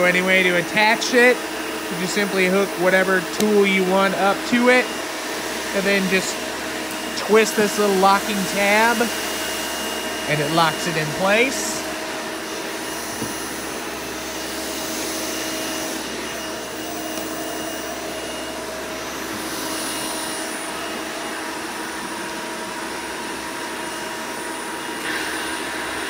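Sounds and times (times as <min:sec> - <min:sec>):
vacuum cleaner motor running: 0:00.0 - 0:26.0.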